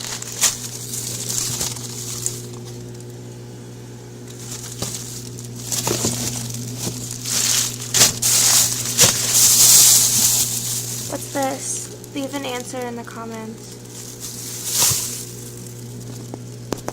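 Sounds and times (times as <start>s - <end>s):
food packages crinkling: 0.0s - 3.2s, 4.2s - 16.9s
fridge hum: 0.0s - 16.9s.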